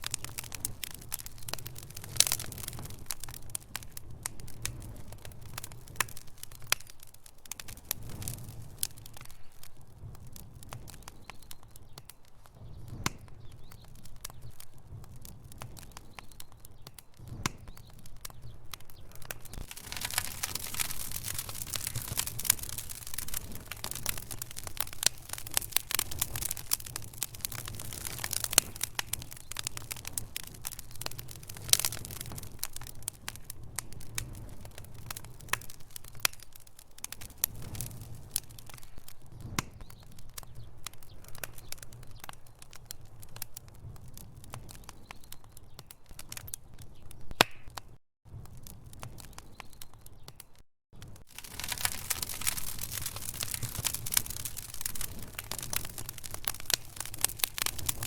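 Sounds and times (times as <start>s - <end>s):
low fire rumble: 0.0s - 50.4s, 51.0s - 58.0s
wood fire crackling and popping: 0.0s - 58.0s.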